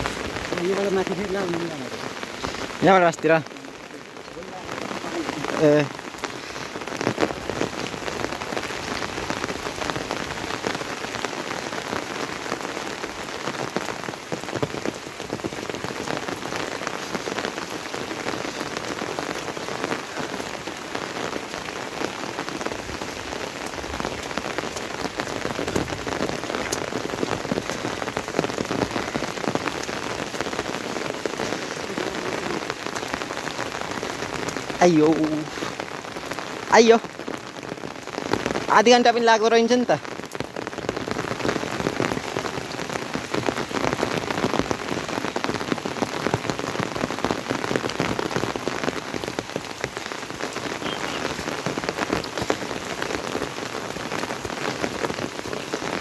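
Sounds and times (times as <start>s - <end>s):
rain falling on an umbrella: 0.0s - 56.0s.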